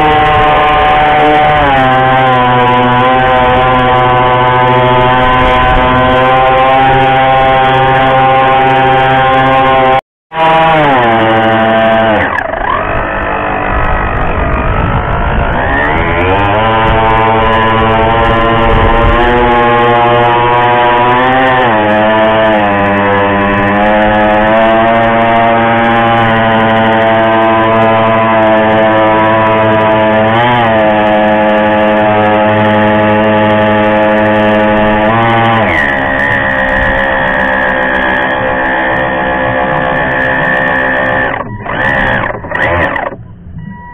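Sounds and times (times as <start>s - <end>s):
small model boat motor running: 0.0s - 43.2s.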